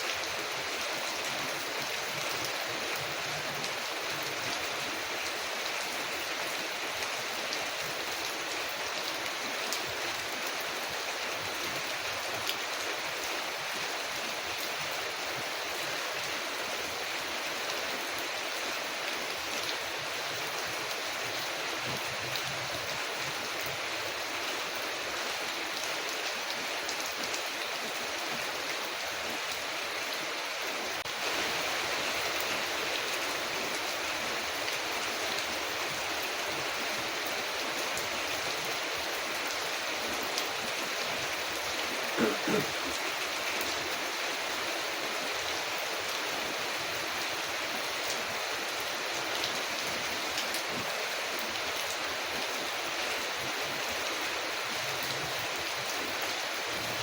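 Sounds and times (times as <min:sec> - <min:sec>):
rain on a window: 0:00.0 - 0:57.0.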